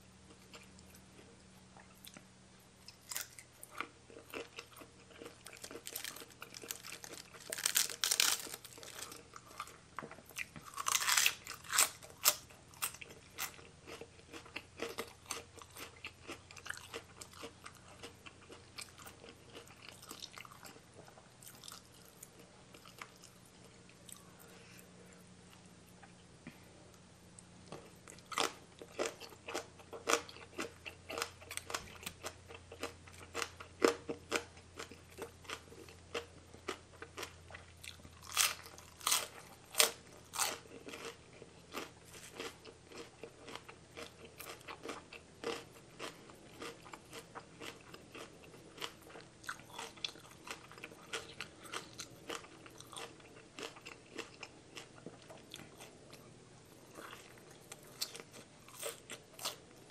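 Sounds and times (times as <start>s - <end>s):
crunchy chewing: 0.2s - 26.6s, 27.6s - 59.9s.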